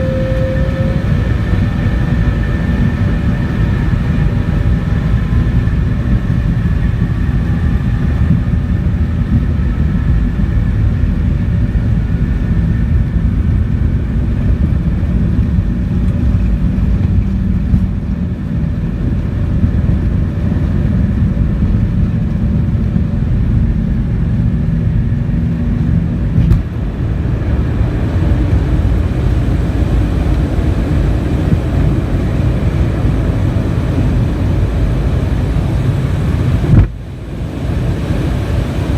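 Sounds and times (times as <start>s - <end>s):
high engine tones: 0.0s - 38.9s
jet engine rumble in cabin: 0.0s - 38.9s.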